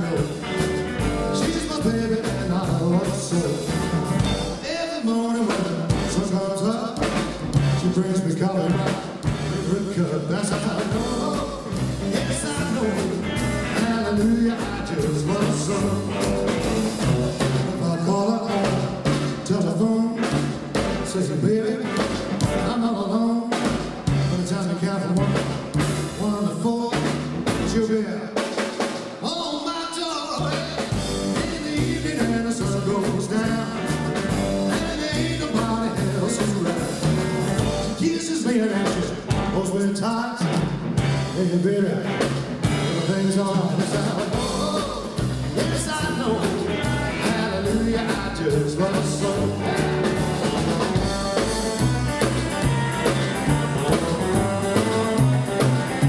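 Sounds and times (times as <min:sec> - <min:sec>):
upright bass: 0:00.0 - 0:04.8, 0:05.4 - 0:28.0, 0:30.2 - 0:56.0
man singing: 0:00.0 - 0:28.6, 0:29.2 - 0:56.0
drum kit: 0:00.0 - 0:56.0
electric guitar: 0:00.0 - 0:56.0.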